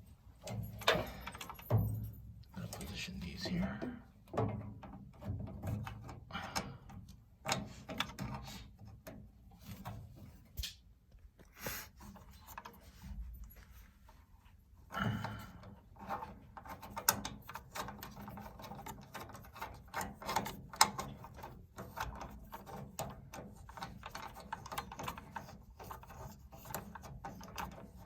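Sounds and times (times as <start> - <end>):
metal tubing clicking and scraping: 0.0 - 10.8, 12.0 - 13.1, 14.9 - 28.0.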